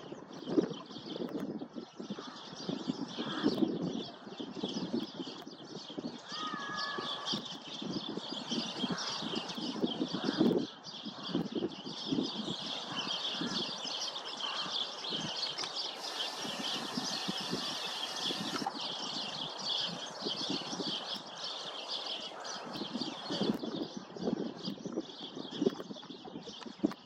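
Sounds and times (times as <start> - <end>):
sparrows chirping: 0.0 - 27.0.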